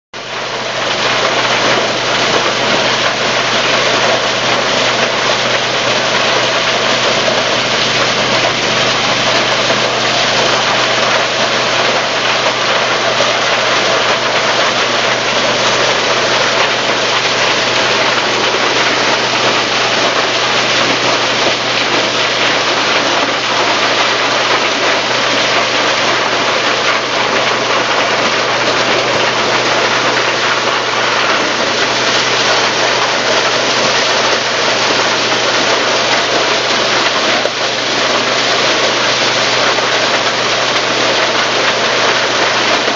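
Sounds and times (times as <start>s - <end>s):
corn thresher running: 0.2s - 42.9s.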